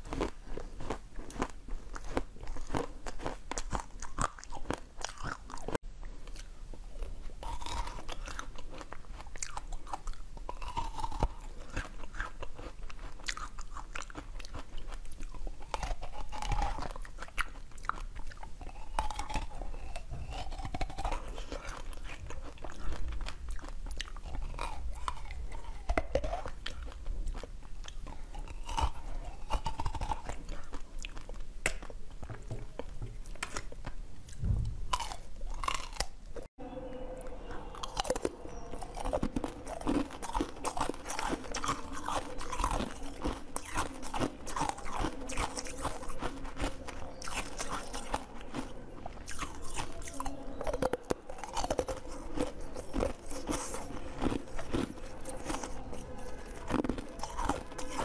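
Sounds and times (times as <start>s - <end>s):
crunching and chewing candied fruit: 0.0s - 36.5s, 37.1s - 58.0s
soft chewing of jelly: 0.0s - 58.0s
steady low hum: 0.0s - 58.0s.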